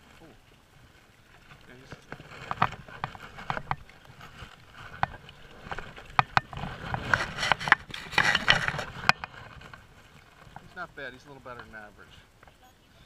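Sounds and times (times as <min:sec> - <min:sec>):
fish splashing: 0:00.0 - 0:11.5.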